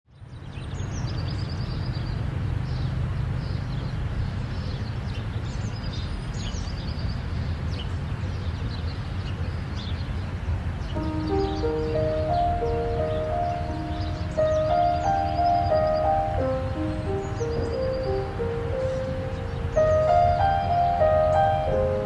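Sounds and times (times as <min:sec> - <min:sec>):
city traffic rumble: 0:00.1 - 0:22.0
birds chirping: 0:00.2 - 0:22.0.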